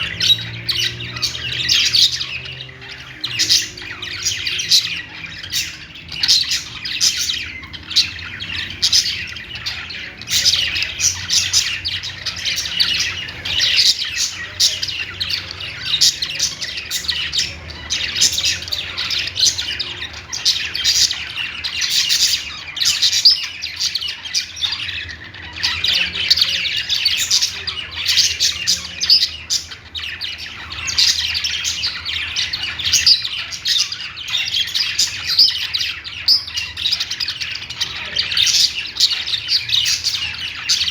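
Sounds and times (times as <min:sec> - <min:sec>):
budgerigars warbling and chirping: 0:00.0 - 0:40.9.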